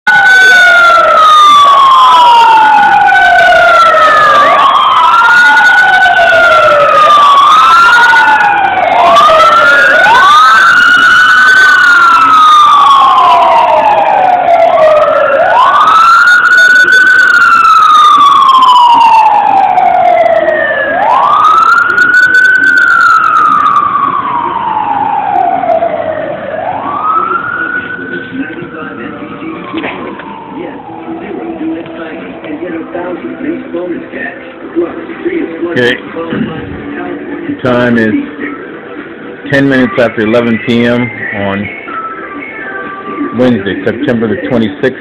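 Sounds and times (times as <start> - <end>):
sirens wailing: 0.1 - 45.0.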